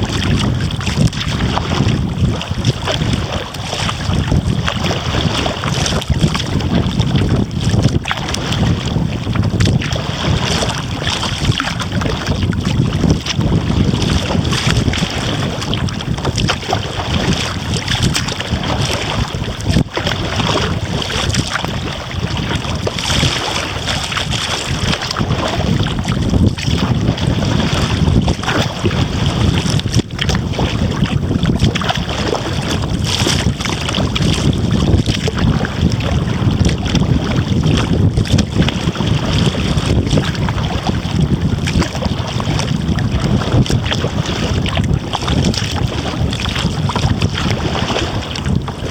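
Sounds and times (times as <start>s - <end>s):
water splashing around kayak: 0.0s - 48.9s
wind rumbling on microphone: 0.0s - 48.9s.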